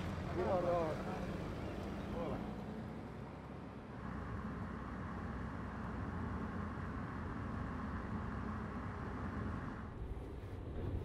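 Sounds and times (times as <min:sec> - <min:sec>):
car engine hum: 0:00.0 - 0:11.0
tyres on road: 0:00.0 - 0:11.0.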